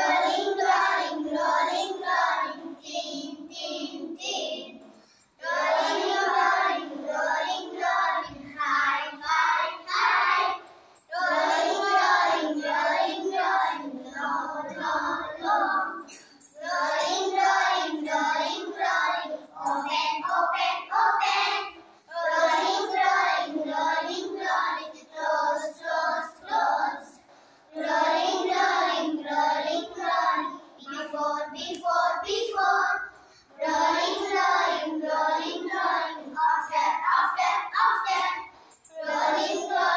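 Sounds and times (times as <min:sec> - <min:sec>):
children singing in unison: 0:00.0 - 0:39.9.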